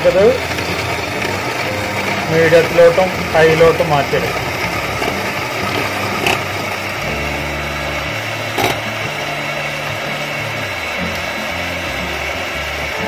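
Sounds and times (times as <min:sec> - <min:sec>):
electric hand mixer whipping: 0:00.0 - 0:13.0
mixer clicks: 0:00.0 - 0:13.0.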